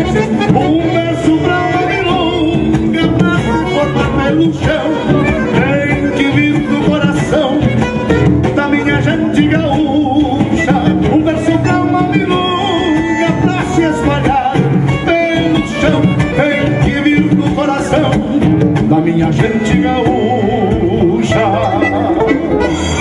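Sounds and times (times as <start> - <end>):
band accompaniment: 0.0 - 23.0
man singing into a microphone: 0.0 - 23.0.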